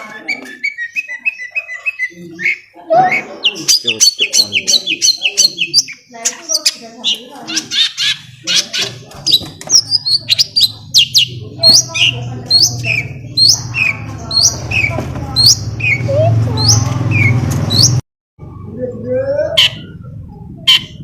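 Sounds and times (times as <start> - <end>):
bird chirping: 0.0 - 18.0, 18.6 - 21.0.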